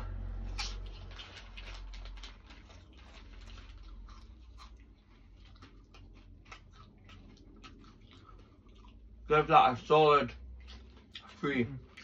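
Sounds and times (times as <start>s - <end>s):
crisps being chewed: 0.4s - 12.0s.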